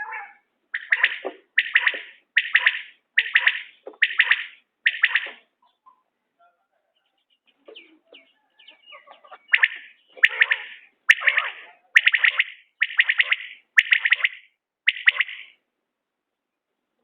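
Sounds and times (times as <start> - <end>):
quail calling: 0.0 - 6.1, 7.5 - 15.6
faint soft chirps: 0.8 - 15.6.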